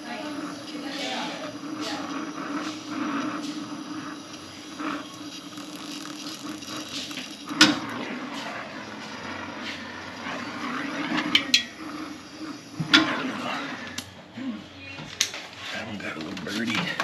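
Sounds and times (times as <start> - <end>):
torch flame hissing: 0.0 - 17.0.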